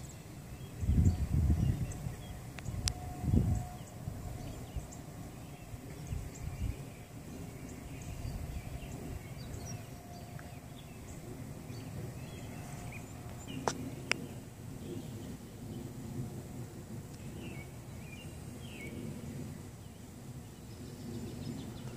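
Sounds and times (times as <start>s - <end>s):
steady low rumble: 0.0s - 21.9s.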